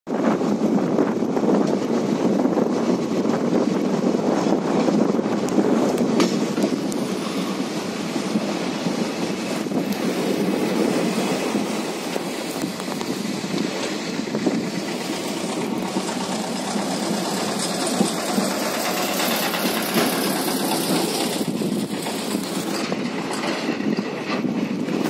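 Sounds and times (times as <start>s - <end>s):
train wheels rattling on rails: 0.1s - 25.0s.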